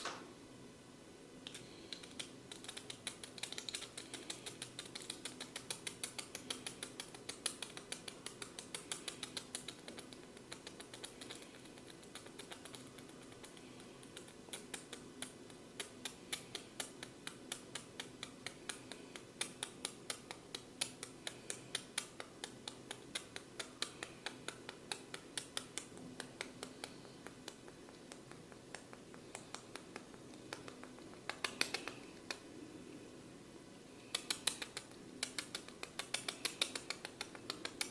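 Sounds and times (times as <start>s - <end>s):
fingers tapping head clicks: 1.5s - 32.4s, 34.0s - 37.9s.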